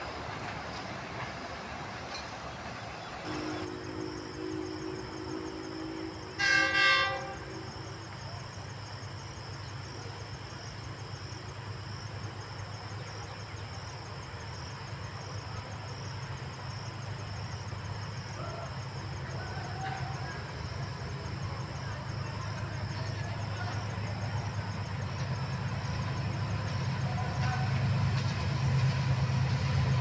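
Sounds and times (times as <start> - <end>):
distant locomotive rumble: 0.0 - 30.0
insects trilling: 0.0 - 30.0.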